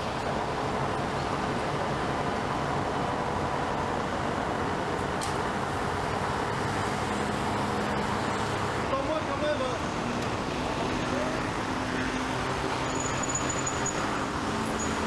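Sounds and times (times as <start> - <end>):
city road traffic hum: 0.0 - 15.0.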